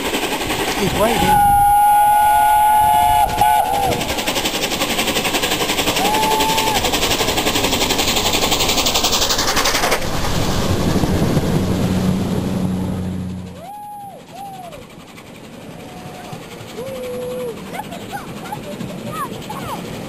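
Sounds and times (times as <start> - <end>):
steam locomotive exhaust and wheels: 0.0 - 20.0
train passing low hum: 0.0 - 20.0.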